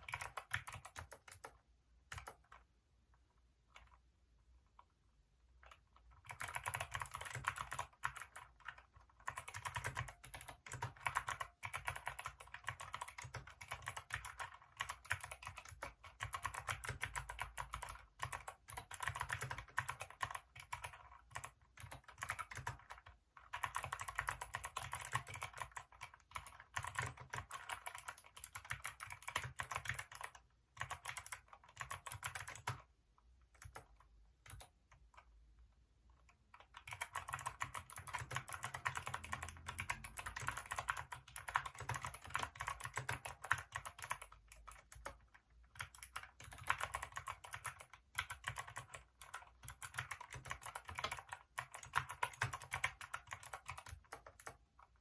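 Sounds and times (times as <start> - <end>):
mechanical keyboard typing: 0.0 - 2.7, 3.6 - 35.4, 36.2 - 55.0.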